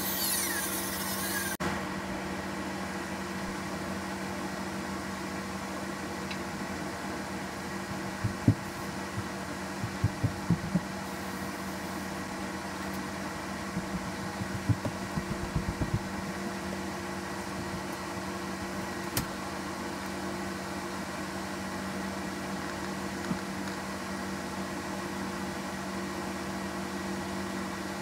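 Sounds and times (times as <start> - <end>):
machine hum: 0.0 - 24.5.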